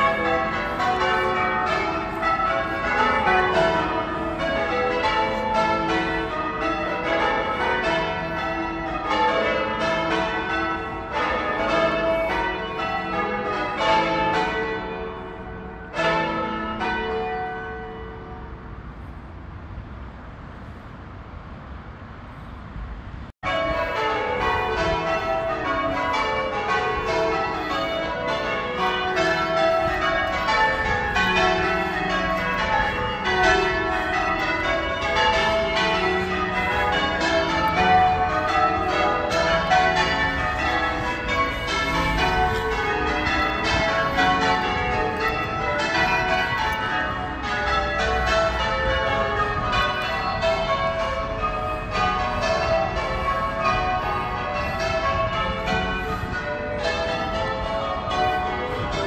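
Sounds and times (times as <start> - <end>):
church bells change ringing: 0.0 - 19.0, 23.4 - 59.0.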